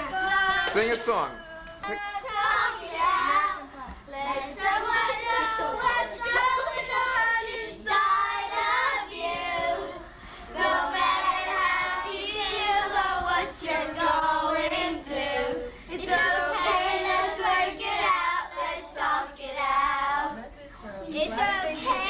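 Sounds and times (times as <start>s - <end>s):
children singing together: 1.7s - 20.4s, 21.2s - 22.0s.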